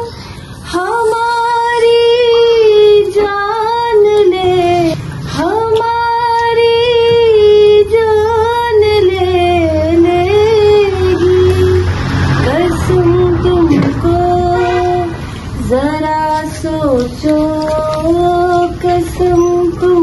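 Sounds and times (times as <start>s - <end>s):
person singing unaccompanied: 0.0s - 20.0s.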